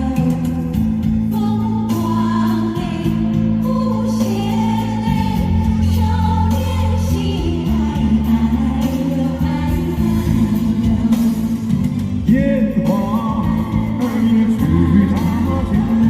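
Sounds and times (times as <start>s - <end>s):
live band playing chords: 0.0s - 16.0s
singing and choir voices: 0.0s - 16.0s.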